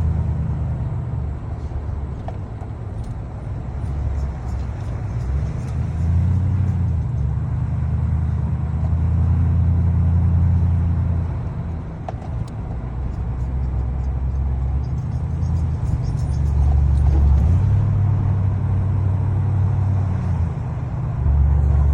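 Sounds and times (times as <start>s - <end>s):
truck engine rumble: 0.0s - 21.9s.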